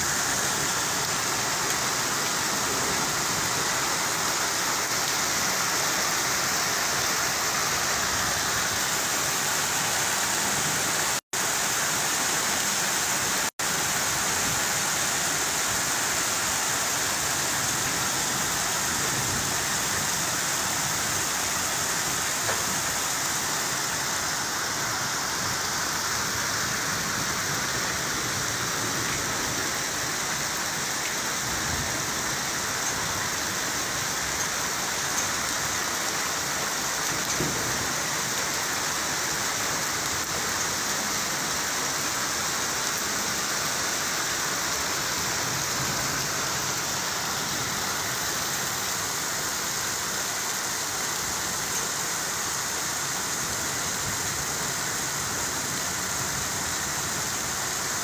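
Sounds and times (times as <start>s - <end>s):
heavy rain on a street: 0.0s - 58.0s.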